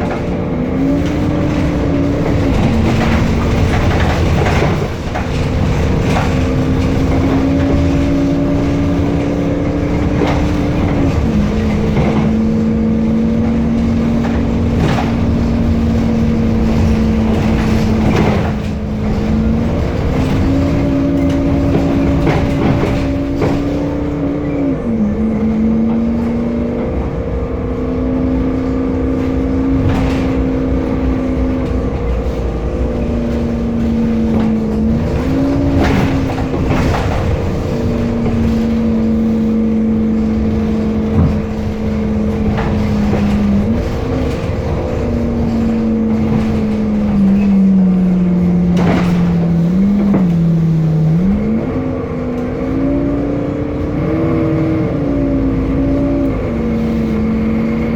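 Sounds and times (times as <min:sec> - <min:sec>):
bus engine droning whine: 0:00.0 - 0:57.9
knocks and rattles: 0:00.0 - 0:57.9.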